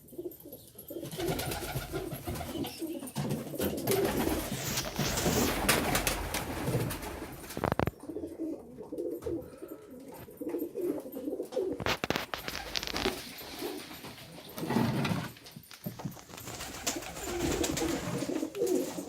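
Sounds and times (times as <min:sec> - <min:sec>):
pigeons cooing: 0:00.0 - 0:15.2, 0:16.3 - 0:19.0.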